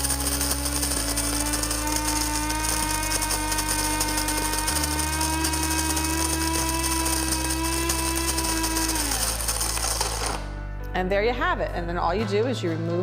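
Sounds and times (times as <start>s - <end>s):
coffee grinder motor whining: 0.0s - 10.5s.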